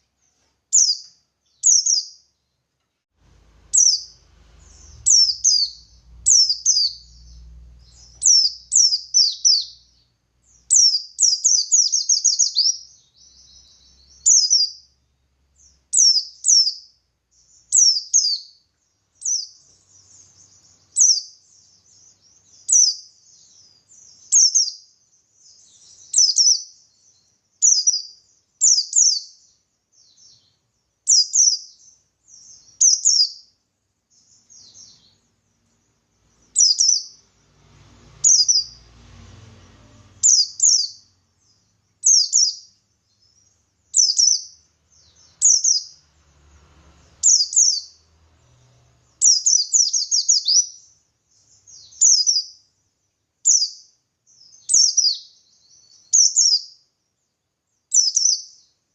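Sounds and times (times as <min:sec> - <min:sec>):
bird chirping: 0:00.0 - 0:58.9
bird twittering trills: 0:00.7 - 0:02.6, 0:03.4 - 0:58.9.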